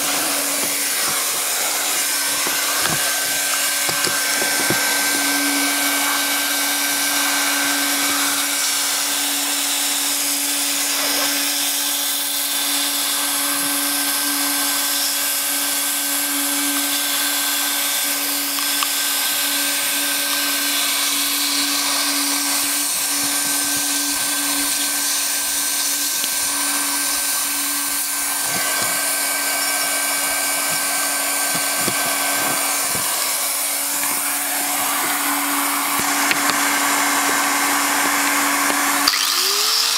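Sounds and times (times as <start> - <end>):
hot air gun blowing hiss: 0.0 - 39.9
motor hum: 0.0 - 39.9.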